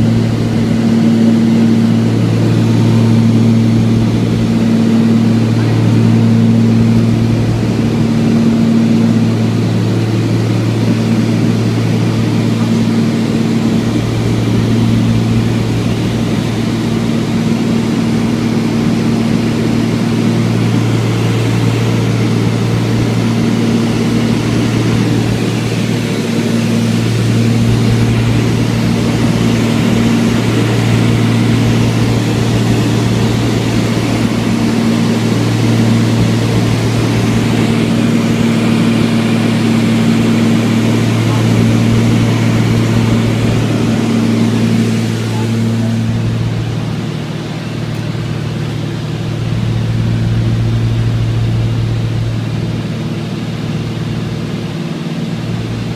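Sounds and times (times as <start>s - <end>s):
propeller aircraft engine droning: 0.0s - 55.9s.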